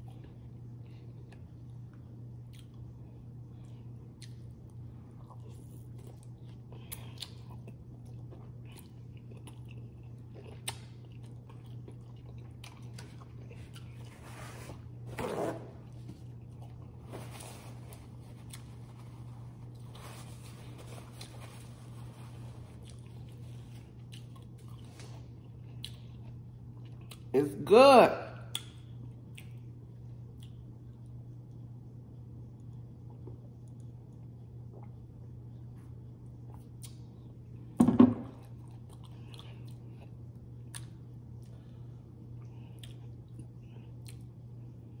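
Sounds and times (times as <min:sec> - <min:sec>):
person chewing food: 0:00.0 - 0:15.0, 0:15.8 - 0:27.3, 0:28.5 - 0:31.6, 0:32.6 - 0:37.7, 0:38.3 - 0:45.0.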